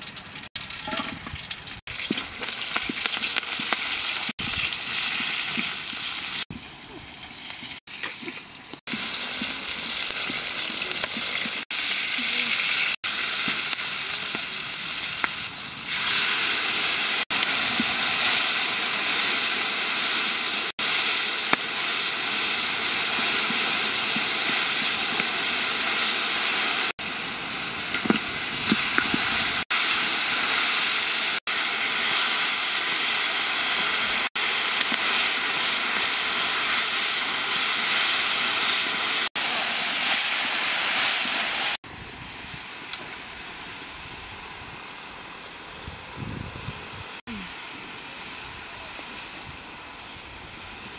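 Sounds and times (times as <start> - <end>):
food sizzling in hot oil: 0.0 - 42.7.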